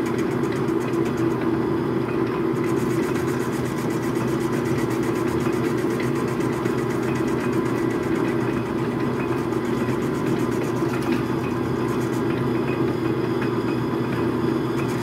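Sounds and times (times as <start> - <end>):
metal lathe motor humming: 0.0 - 15.0.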